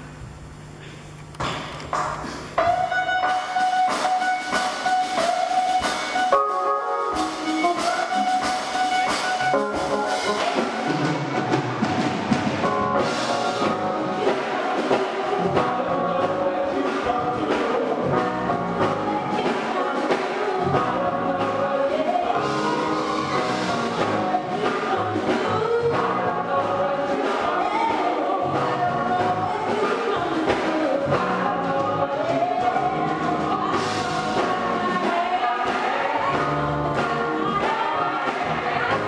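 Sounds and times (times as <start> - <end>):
instrumental backing: 1.3 - 39.0
gospel choir singing: 2.6 - 39.0.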